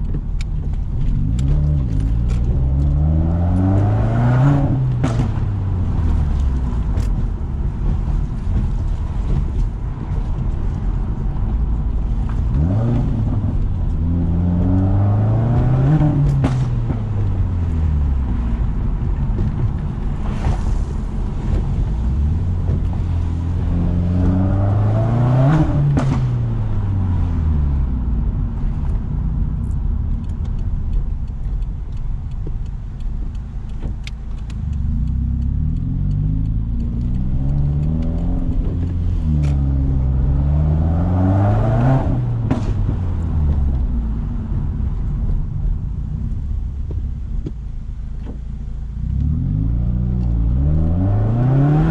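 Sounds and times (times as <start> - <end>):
car engine revving: 0.0 - 51.9
exhaust popping cracks: 0.0 - 51.9.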